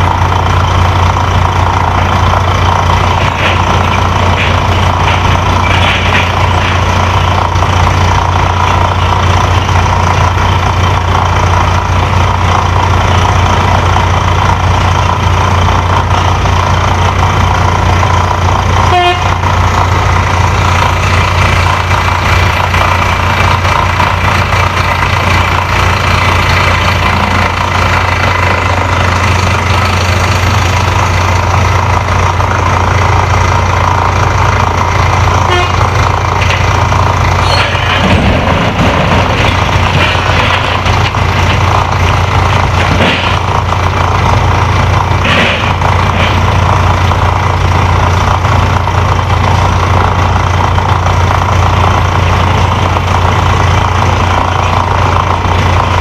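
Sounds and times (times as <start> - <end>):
heavy machinery humming: 0.0 - 56.0.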